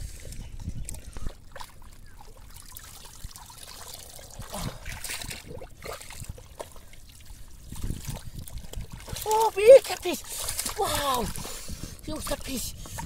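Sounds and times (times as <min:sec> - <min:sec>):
muddy water trickling: 0:00.0 - 0:13.0
wet mud squelching: 0:00.0 - 0:13.0.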